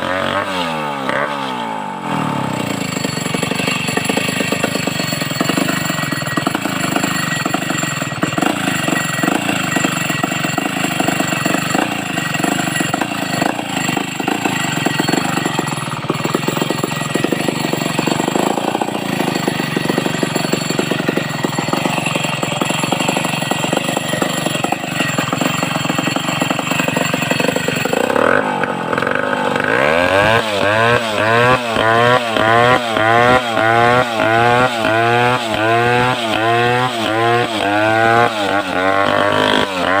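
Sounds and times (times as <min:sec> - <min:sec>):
chainsaw cutting a log: 0:00.0 - 0:40.0.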